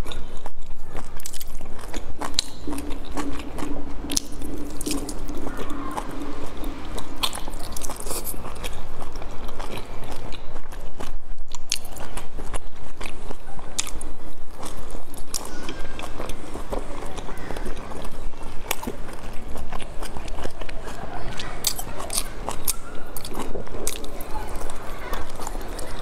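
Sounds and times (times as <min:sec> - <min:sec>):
chewing and biting: 0:00.0 - 0:26.0
low steady hum: 0:00.0 - 0:26.0.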